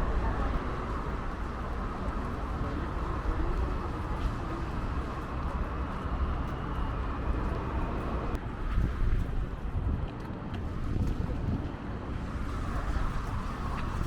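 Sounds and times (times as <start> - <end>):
distant traffic: 0.0 - 14.0
wind buffeting microphone: 0.0 - 14.0.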